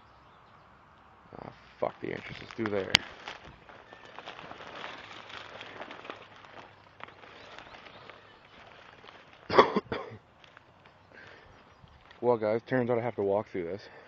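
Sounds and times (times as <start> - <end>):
footsteps crunching through dry grass: 1.3 - 13.7.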